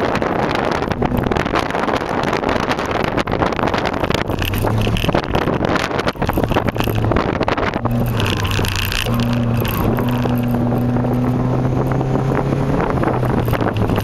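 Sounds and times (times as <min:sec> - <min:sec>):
car engine: 0:00.0 - 0:14.0
road noise: 0:00.0 - 0:14.0
wind buffeting microphone: 0:00.0 - 0:14.0.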